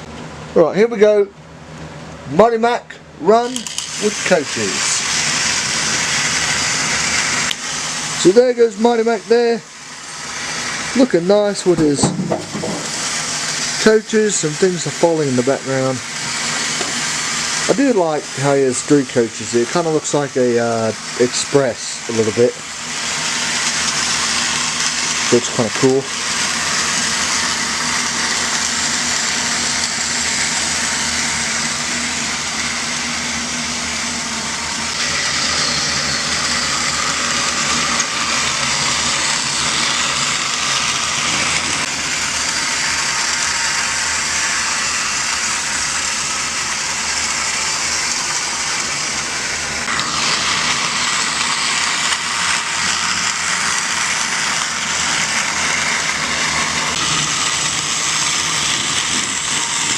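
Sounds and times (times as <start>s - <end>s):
toy train motor whir: 2.8s - 59.9s
toy train wheel rattle: 3.5s - 33.3s, 34.8s - 59.9s.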